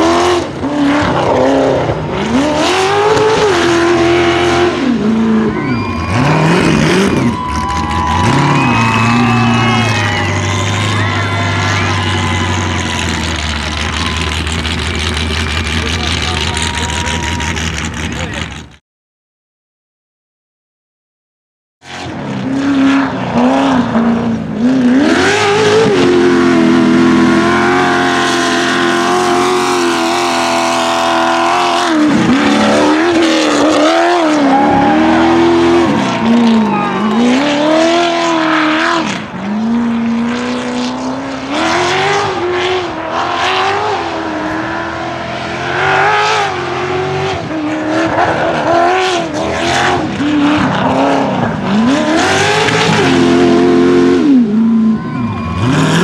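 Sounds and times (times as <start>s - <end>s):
buggy engine revving: 0.0s - 18.8s, 21.8s - 56.0s.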